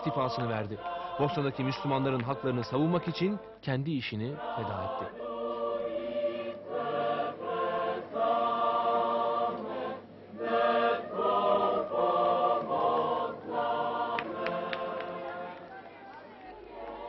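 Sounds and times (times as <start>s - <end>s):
choir singing held chords: 0.0s - 15.6s, 16.6s - 17.0s.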